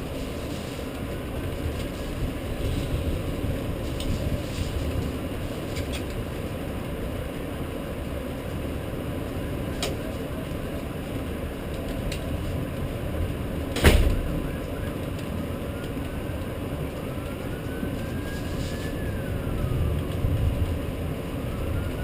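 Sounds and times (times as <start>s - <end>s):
low rumble: 0.0s - 22.0s
rain rushing: 0.0s - 22.0s.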